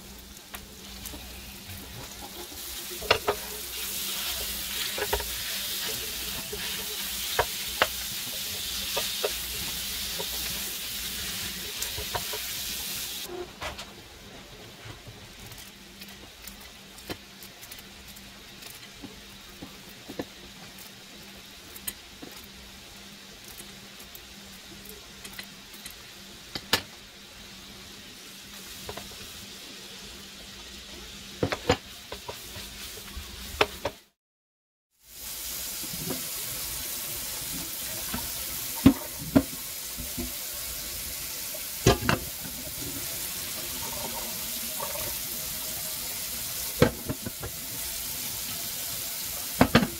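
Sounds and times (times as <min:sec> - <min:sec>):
meat sizzling in a frying pan: 0:00.0 - 0:13.3, 0:15.6 - 0:34.2, 0:34.9 - 0:49.9.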